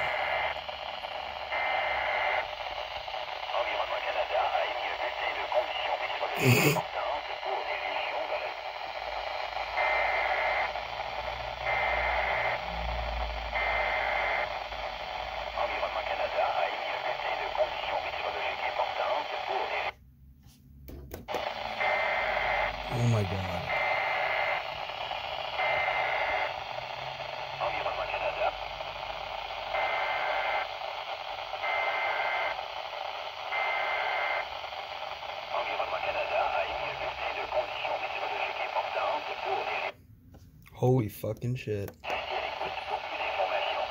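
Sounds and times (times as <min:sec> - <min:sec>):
radio static: 0:00.0 - 0:20.0, 0:21.2 - 0:40.0, 0:40.9 - 0:43.9.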